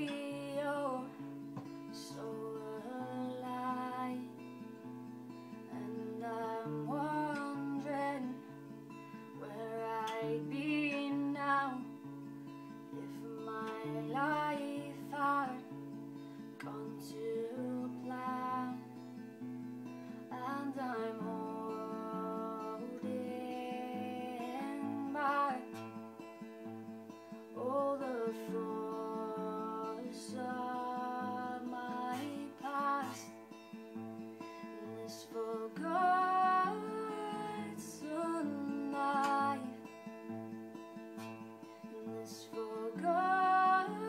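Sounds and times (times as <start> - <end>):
woman singing: 0.0 - 4.7, 5.6 - 8.6, 9.2 - 12.1, 12.9 - 16.0, 16.6 - 19.2, 20.3 - 26.1, 27.5 - 33.5, 34.8 - 40.4, 41.8 - 44.0
acoustic guitar picking: 0.0 - 44.0.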